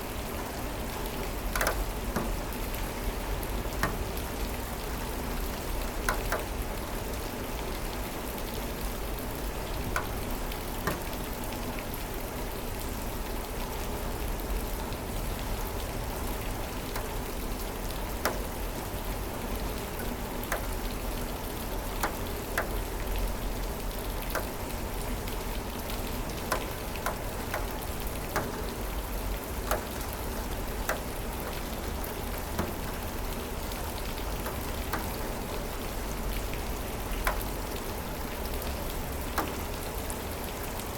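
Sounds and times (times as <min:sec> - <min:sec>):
steady rain falling: 0:00.0 - 0:40.9
close raindrop clicks: 0:00.4 - 0:40.9.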